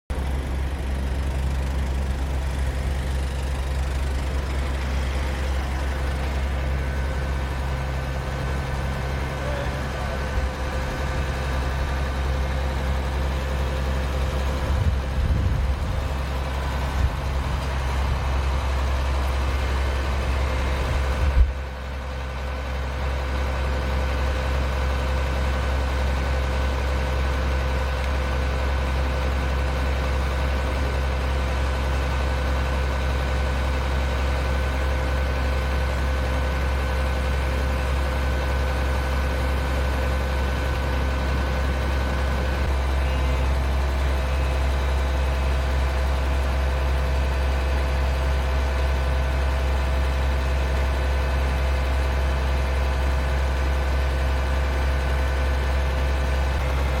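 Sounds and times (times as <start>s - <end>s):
vehicle engines idling: 0.1s - 57.0s.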